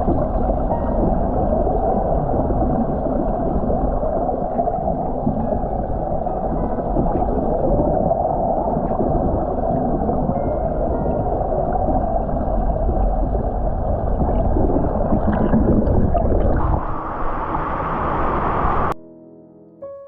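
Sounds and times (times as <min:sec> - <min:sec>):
muffled waterfall rushing: 0:00.0 - 0:19.0.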